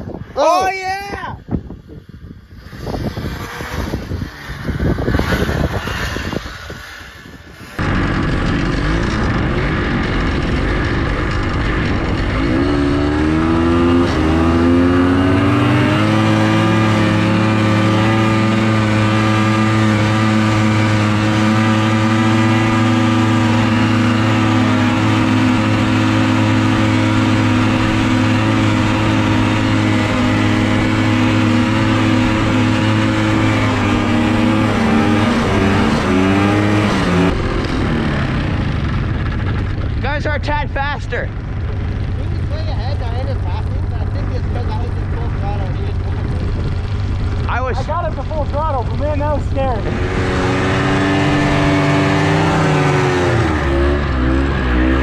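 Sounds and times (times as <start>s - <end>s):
snowmobile engine revving: 2.4s - 55.0s.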